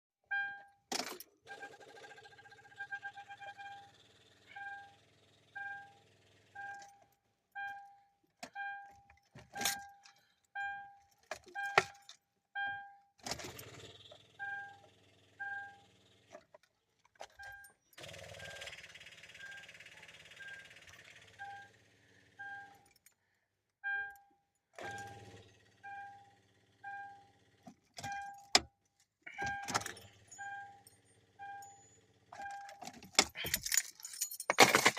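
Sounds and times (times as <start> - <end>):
car warning chime dinging: 0.3 - 0.9, 1.5 - 13.2, 14.4 - 16.0, 17.4 - 21.8, 22.4 - 23.0, 23.8 - 32.9.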